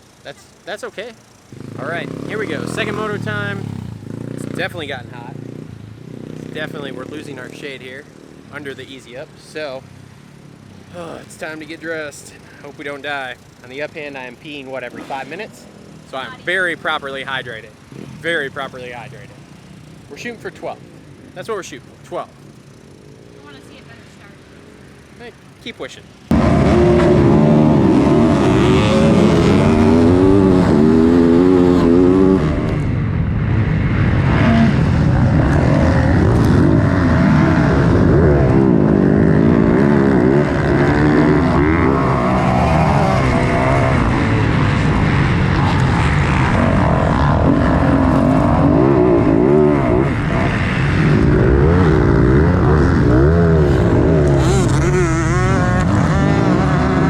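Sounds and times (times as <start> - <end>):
dirt bike engine revving: 0.7 - 24.2, 24.8 - 57.0.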